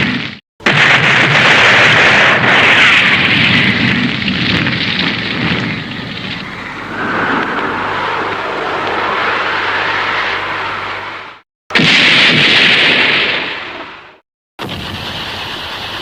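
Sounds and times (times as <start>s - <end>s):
explosion-like rush with crackle: 0.0s - 16.0s.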